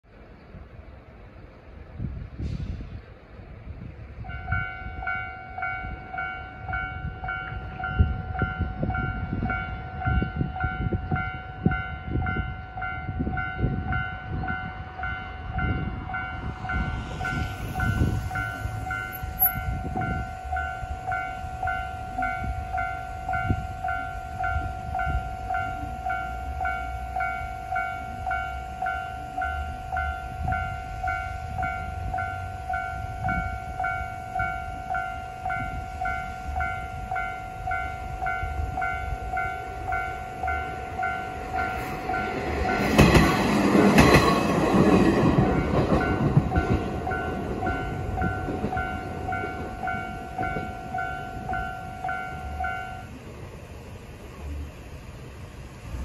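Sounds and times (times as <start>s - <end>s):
diesel railcar rumbling: 0.0s - 56.0s.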